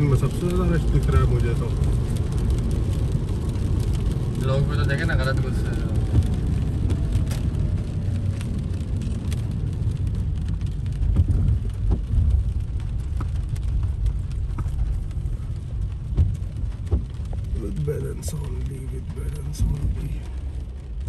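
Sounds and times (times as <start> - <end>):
car cabin engine rumble: 0.0 - 21.0
rain tapping on car: 0.0 - 21.0.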